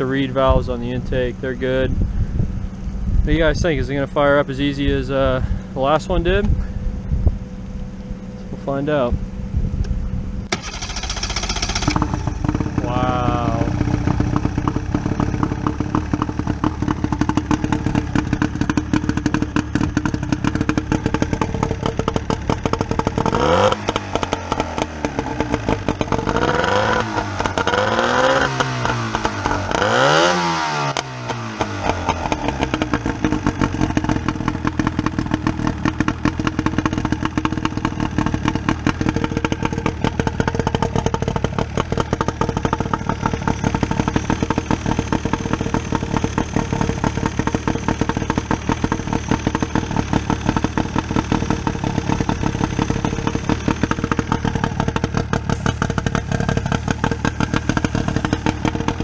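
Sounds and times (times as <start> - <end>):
outboard motor running and revving: 10.5 - 59.0.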